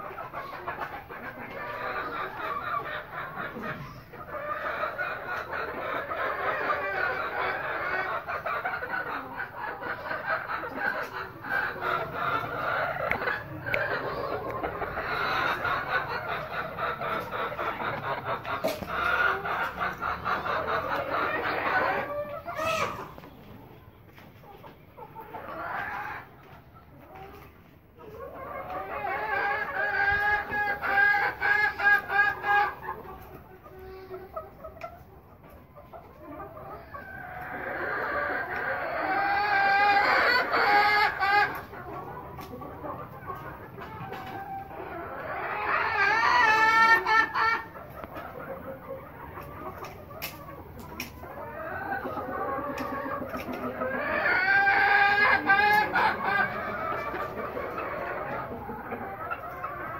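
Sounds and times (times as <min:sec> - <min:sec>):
chickens clucking: 0:00.0 - 0:59.9
hens calling: 0:00.0 - 0:59.9.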